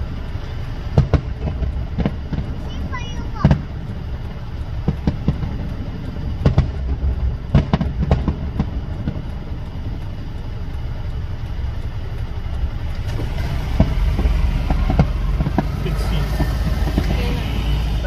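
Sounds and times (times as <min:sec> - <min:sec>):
car rumble: 0:00.0 - 0:18.0
fireworks bangs and pops: 0:00.1 - 0:10.2, 0:12.9 - 0:18.0.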